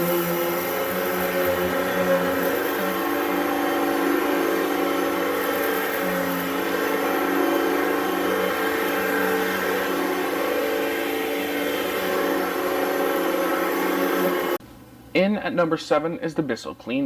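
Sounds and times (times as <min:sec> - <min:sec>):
vacuum cleaner motor whine: 0:00.0 - 0:14.6.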